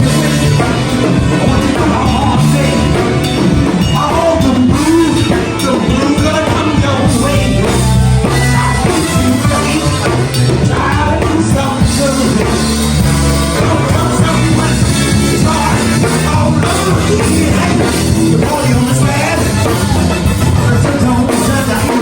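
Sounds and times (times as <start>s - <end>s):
band playing loud music: 0.0s - 22.0s
person singing: 0.0s - 22.0s.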